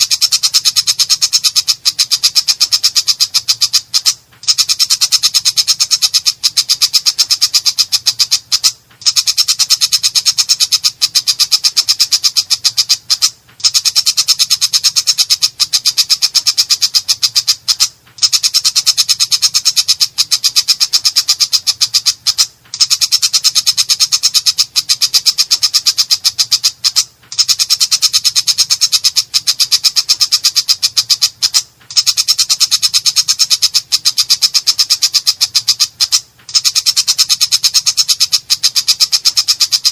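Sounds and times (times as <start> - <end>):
bird rasping chatter: 0.0 - 39.9.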